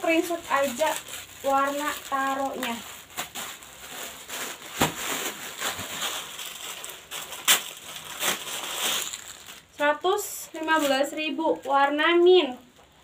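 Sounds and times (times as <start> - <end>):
fabric rustling: 0.0 - 13.0.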